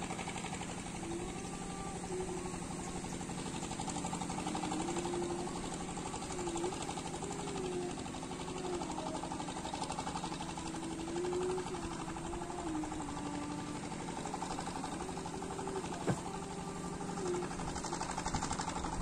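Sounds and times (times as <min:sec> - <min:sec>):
small boat engine chugging: 0:00.0 - 0:19.0.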